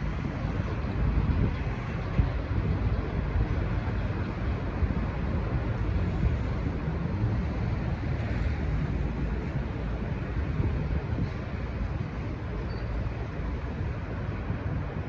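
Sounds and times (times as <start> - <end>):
diesel locomotive and train rumble: 0.0 - 15.0.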